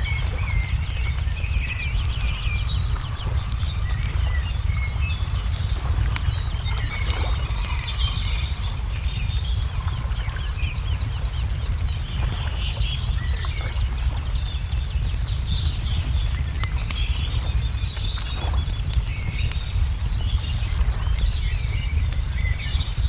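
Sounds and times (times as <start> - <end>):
low steady rumble: 0.0 - 23.0
small birds chirping: 0.0 - 23.0
wood fire crackling: 0.0 - 23.0.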